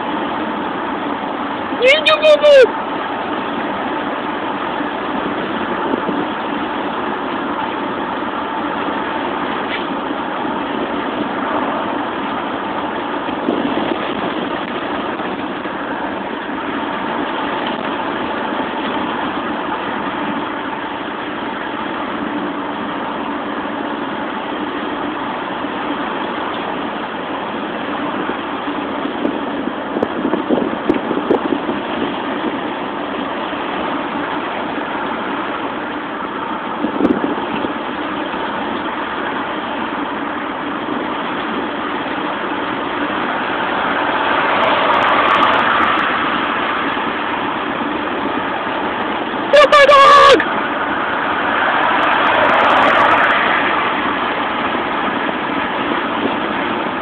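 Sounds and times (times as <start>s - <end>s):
wind and road noise in car: 0.0s - 57.0s.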